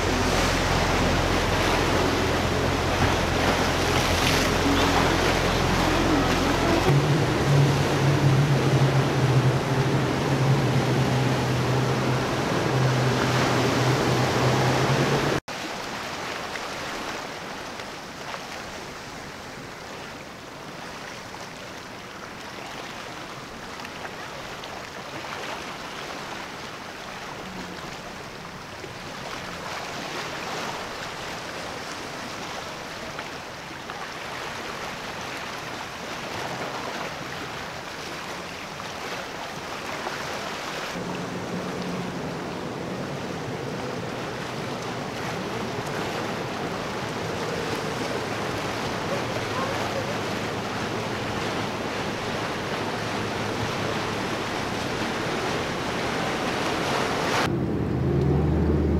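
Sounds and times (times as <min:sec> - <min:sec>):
boat engines humming: 0:00.0 - 0:58.9
sea waves: 0:00.0 - 0:58.9
wind: 0:00.0 - 0:58.9.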